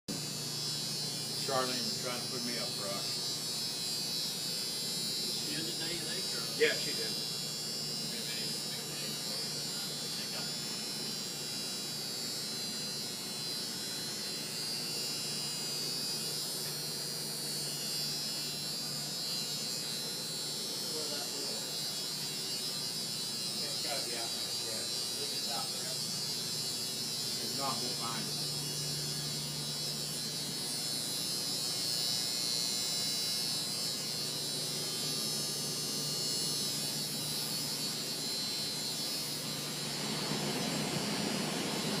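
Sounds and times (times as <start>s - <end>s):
machinery whining over low hum: 0.1s - 42.0s.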